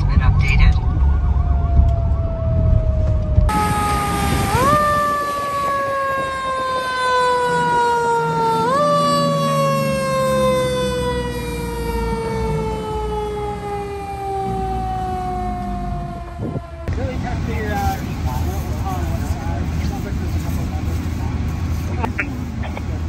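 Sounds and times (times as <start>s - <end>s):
fire engine siren wailing: 0.0s - 21.9s
fire engine rumble: 0.0s - 23.0s.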